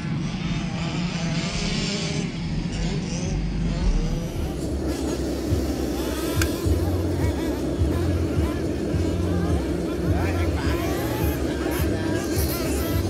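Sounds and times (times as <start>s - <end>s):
low hum: 0.0s - 13.0s
electric motors whirring: 0.1s - 13.0s.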